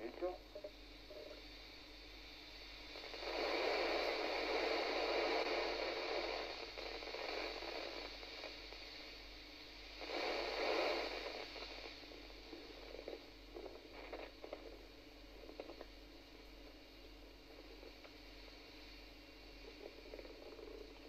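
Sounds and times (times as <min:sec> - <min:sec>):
radio hiss and static: 0:00.0 - 0:21.0
weak radio signal: 0:00.0 - 0:21.0.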